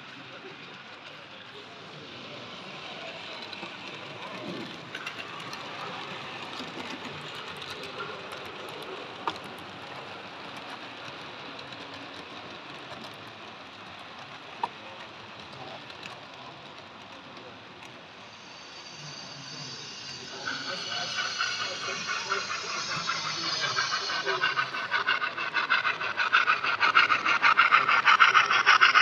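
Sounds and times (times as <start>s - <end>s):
distant voices: 0.0s - 29.0s
model trains running: 0.0s - 29.0s.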